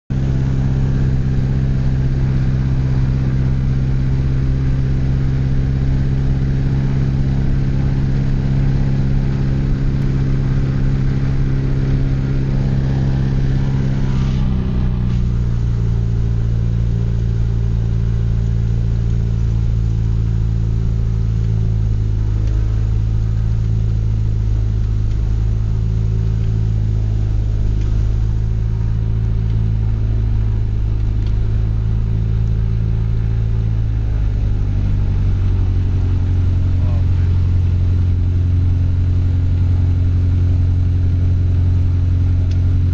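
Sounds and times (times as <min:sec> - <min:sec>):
aircraft piston engine running: 0:00.1 - 0:42.9.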